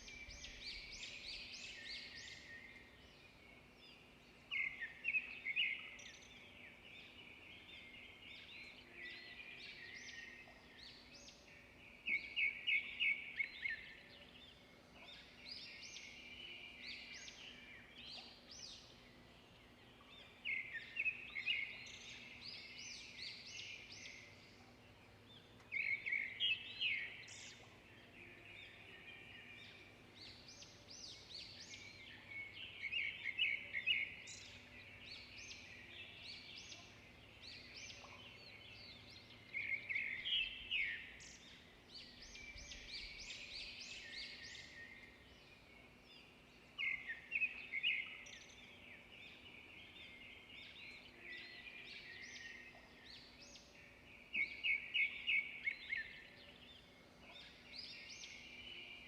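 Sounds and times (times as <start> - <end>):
birds chirping and singing: 0.0 - 59.0
faint background hiss: 0.0 - 59.0.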